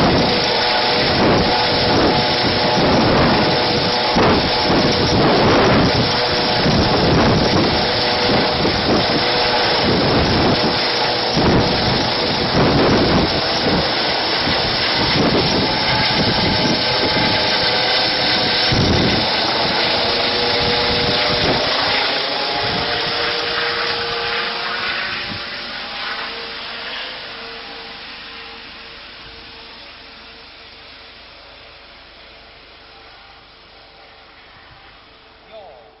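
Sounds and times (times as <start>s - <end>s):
helicopter rotor and turbine whine: 0.0s - 36.0s.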